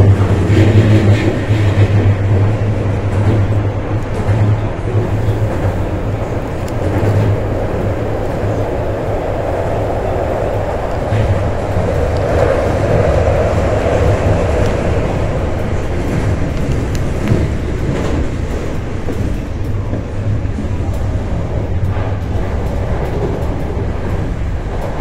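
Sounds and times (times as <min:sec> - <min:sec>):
train running on rails: 0:00.0 - 0:25.0.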